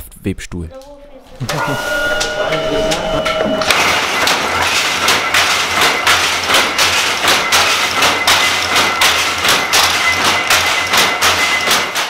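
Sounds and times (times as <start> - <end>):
steady low hum: 1.0 - 11.6
loom shuttle clacking: 1.9 - 12.0.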